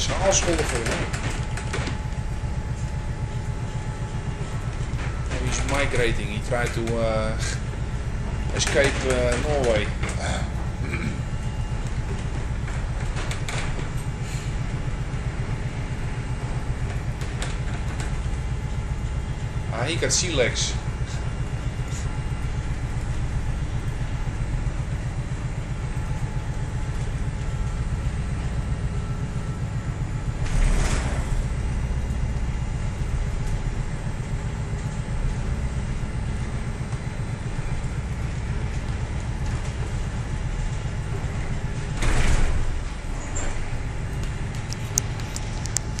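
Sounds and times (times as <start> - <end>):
ship engines rumbling: 0.0 - 46.0.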